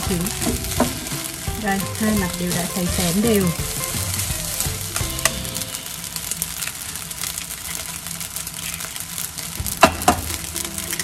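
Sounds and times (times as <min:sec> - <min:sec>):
rice sizzling in a pan: 0:00.0 - 0:11.0.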